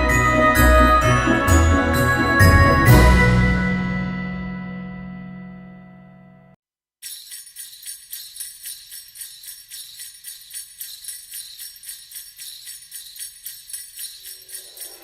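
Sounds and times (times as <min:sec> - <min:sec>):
sleigh bells jingling: 0:00.0 - 0:04.1, 0:07.0 - 0:15.0.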